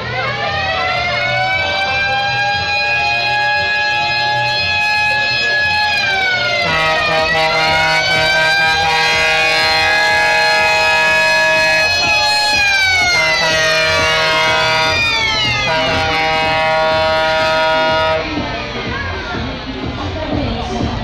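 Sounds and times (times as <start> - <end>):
siren-like electronic tones: 0.1 - 19.8.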